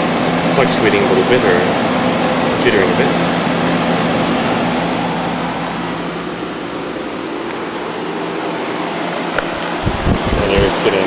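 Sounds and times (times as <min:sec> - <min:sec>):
compressor low hum: 0:00.0 - 0:11.0
fan air rush: 0:00.0 - 0:11.0.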